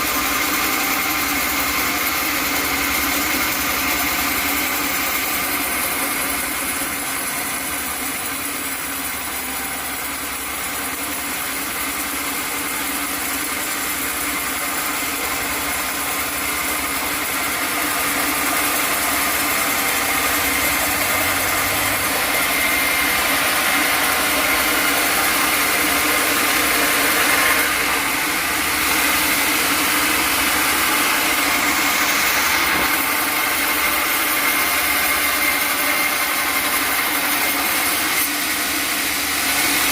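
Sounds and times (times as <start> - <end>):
high machine whine: 0.0 - 39.9
sawmill machinery drone: 0.0 - 39.9.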